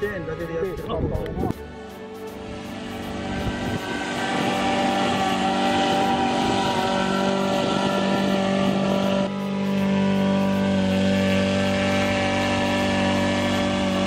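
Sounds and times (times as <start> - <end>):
small boat engine running: 1.5 - 14.0.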